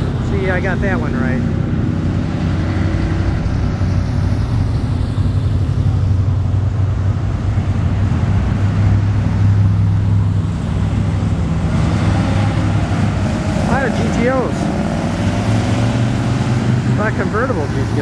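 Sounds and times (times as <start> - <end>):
car engines rumbling past: 0.0 - 18.0.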